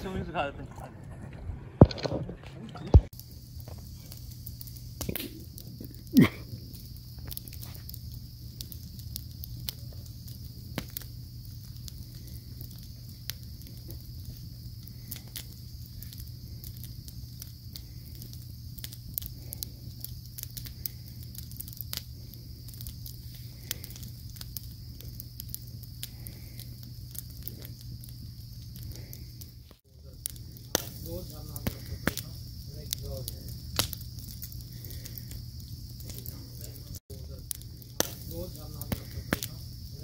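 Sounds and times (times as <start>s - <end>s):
campfire crackling and popping: 0.0s - 40.0s
steady low hum: 0.0s - 40.0s
high-pitched hiss: 3.1s - 40.0s.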